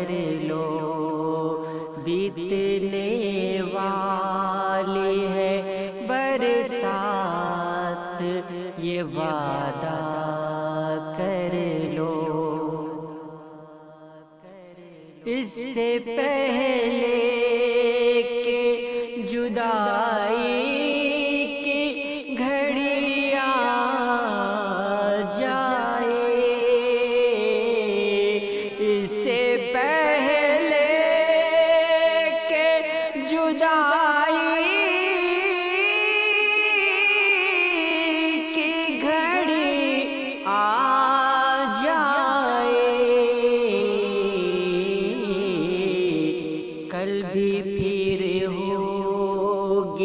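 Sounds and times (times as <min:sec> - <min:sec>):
person singing ornamented melody: 0:00.0 - 0:13.5, 0:15.0 - 0:50.0.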